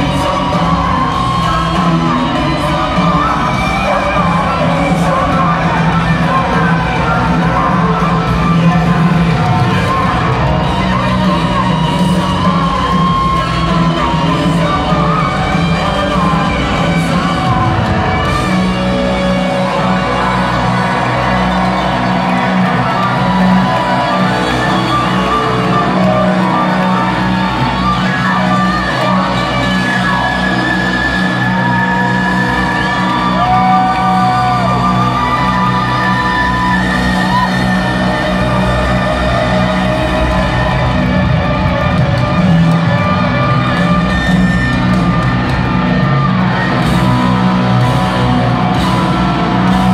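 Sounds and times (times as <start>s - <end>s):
crowd whooping and shouting: 0.0s - 49.9s
rock band with piano playing live: 0.0s - 49.9s.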